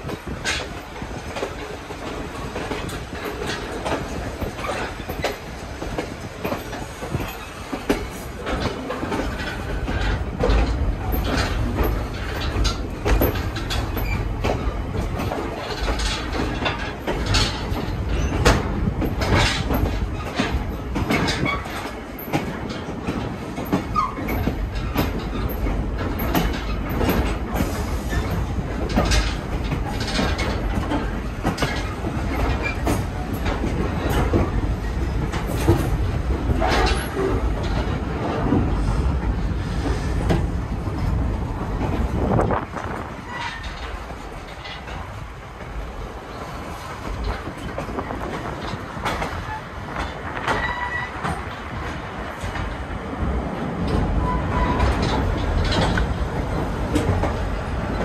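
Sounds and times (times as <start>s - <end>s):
train rumble: 0.0s - 58.0s
wheels clicking over rail joints: 0.0s - 58.0s.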